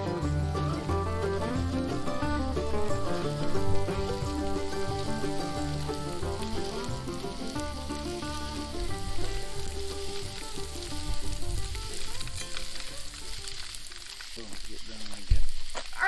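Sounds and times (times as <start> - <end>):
background music: 0.0 - 13.4
food sizzling over campfire: 0.0 - 16.0.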